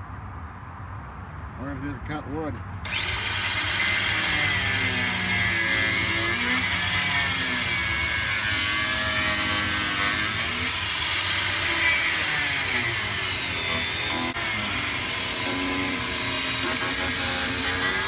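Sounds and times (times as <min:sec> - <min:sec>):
angle grinder grinding: 0:02.9 - 0:18.0.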